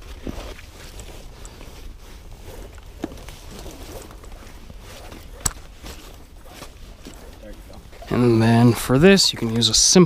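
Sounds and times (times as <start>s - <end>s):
rope rustling and scuffing: 0.0s - 9.6s.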